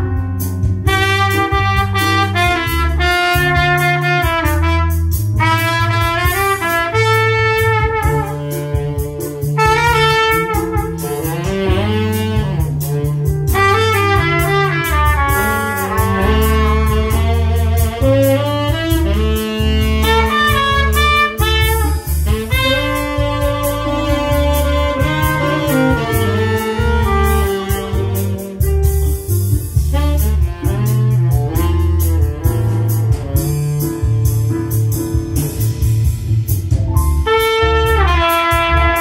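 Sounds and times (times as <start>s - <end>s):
steady bass line: 0.0s - 39.0s
trumpet playing jazz melody: 0.0s - 39.0s.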